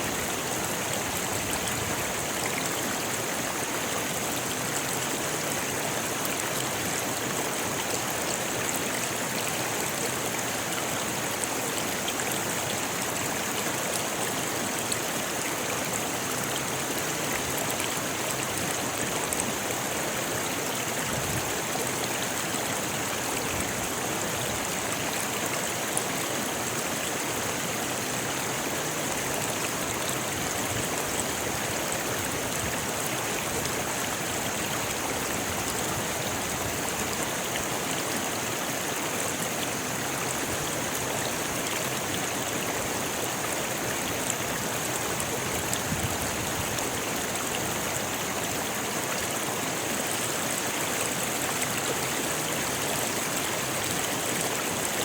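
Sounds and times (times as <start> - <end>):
river rushing over stones: 0.0 - 55.0.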